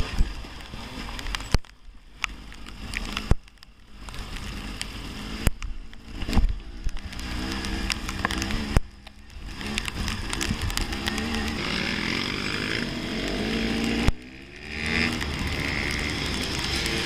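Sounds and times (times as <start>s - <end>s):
dirt bike engine revving: 2.7s - 17.0s.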